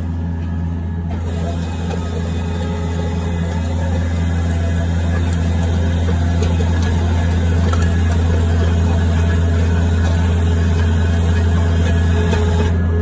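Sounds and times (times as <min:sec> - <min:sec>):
loader engine running under load: 0:00.0 - 0:13.0
auger boring into sandy soil: 0:01.1 - 0:12.9.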